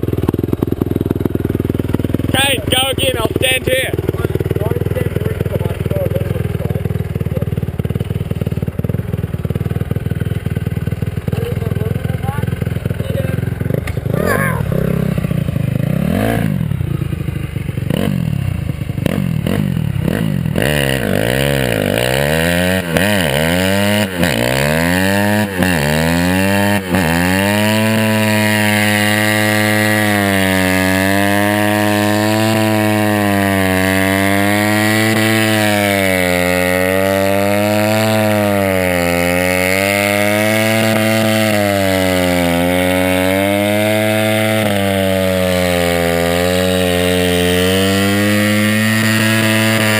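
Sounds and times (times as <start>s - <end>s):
motorcycle engine revving: 0.0s - 49.9s
rear tyre spinning: 0.0s - 49.9s.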